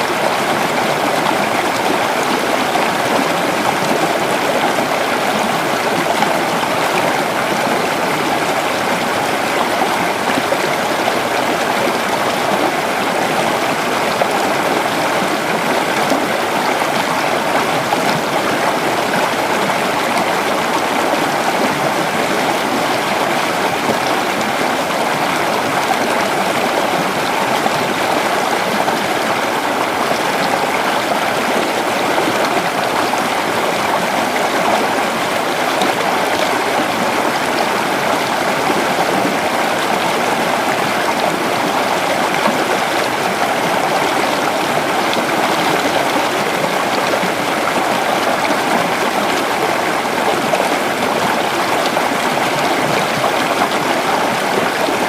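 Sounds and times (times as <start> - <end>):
creek water babbling over rocks: 0.0 - 55.0.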